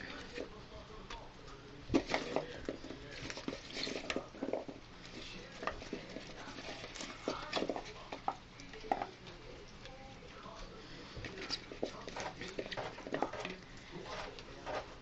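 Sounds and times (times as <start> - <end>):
guinea pigs chewing vegetables: 0.0 - 15.0
small movements in cage: 0.0 - 15.0.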